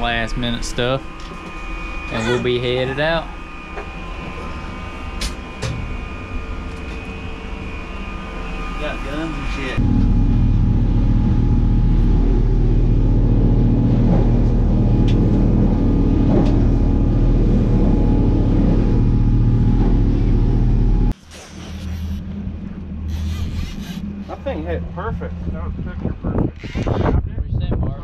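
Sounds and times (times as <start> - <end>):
boat engine droning: 0.0 - 26.8
low rumble: 0.0 - 28.0.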